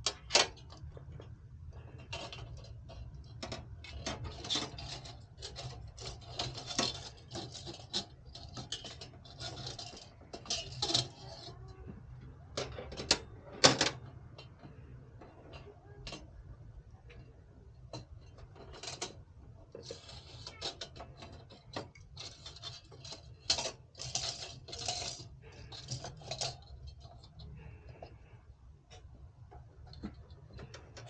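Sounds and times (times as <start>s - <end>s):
handling clicks and rustles: 0.0s - 31.0s.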